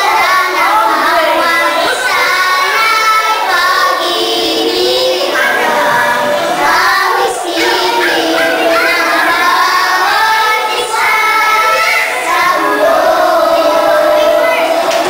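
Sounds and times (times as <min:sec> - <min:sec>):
girls singing together: 0:00.0 - 0:15.0.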